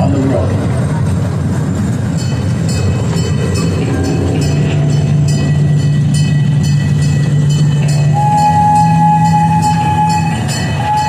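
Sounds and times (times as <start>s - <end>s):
low drone: 0.0s - 11.0s
train rumbling on track: 0.0s - 11.0s.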